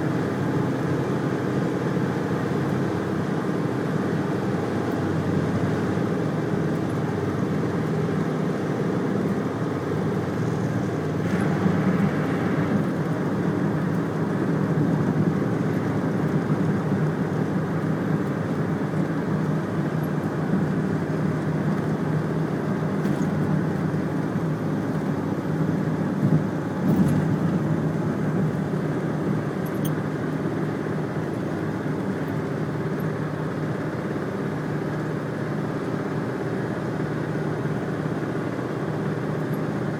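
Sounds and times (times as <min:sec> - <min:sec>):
vehicle rumbling at speed: 0:00.0 - 0:39.9.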